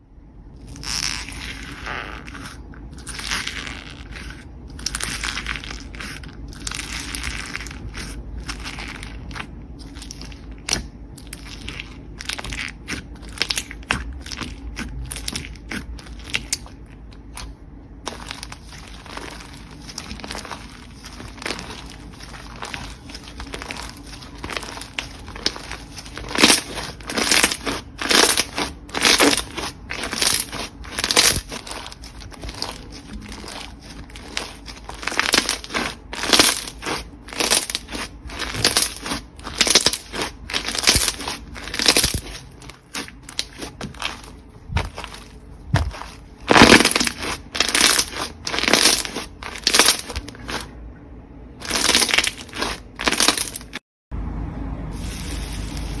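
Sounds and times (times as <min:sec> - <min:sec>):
slime crackling squishes: 0:00.6 - 0:50.8, 0:51.6 - 0:53.8.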